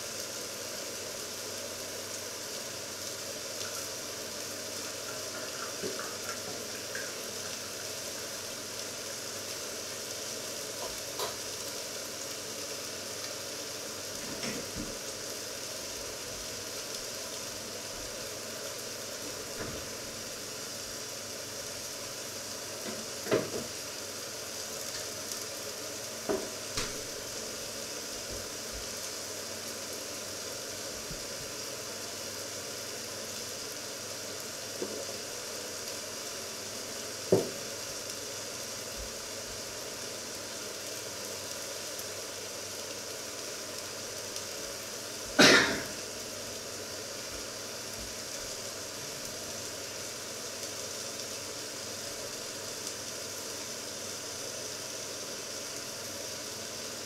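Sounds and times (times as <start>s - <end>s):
food sizzling in a covered pan: 0.0s - 57.0s.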